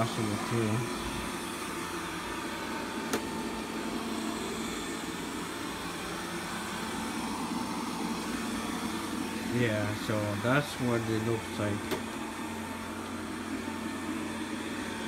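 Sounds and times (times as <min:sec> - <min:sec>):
robot vacuum humming on carpet: 0:00.0 - 0:15.0.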